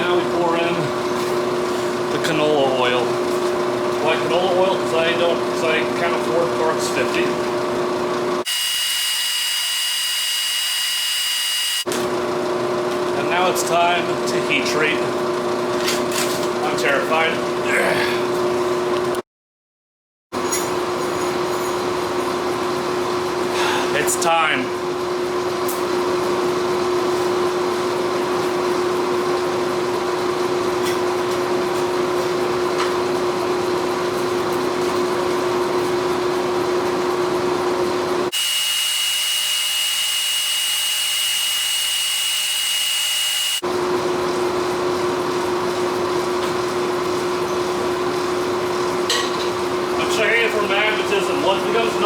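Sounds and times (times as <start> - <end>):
forge mechanical hum: 0.0 - 19.2, 21.9 - 52.0.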